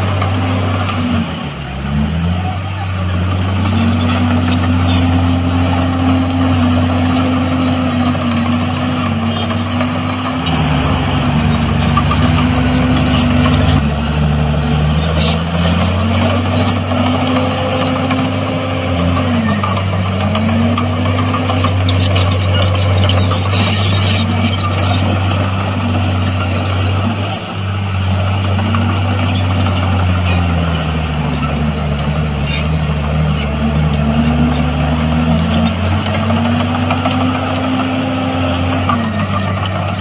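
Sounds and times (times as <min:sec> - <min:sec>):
heavy diesel machinery engines: 0:00.0 - 0:40.0.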